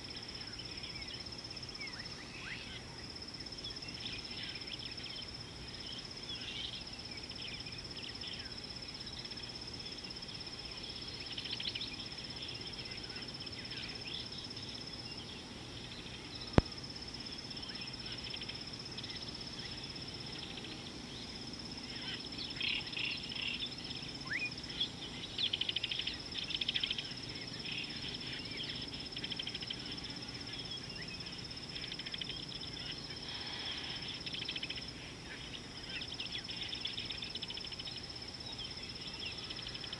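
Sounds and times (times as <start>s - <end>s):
birds calling and chirping: 0.0s - 39.9s
high insect trill: 0.0s - 39.9s.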